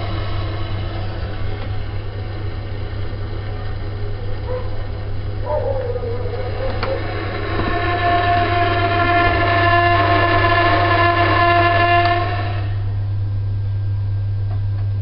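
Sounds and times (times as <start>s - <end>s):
wavering tonal drone: 0.0s - 13.2s
gas boiler humming: 0.0s - 15.0s.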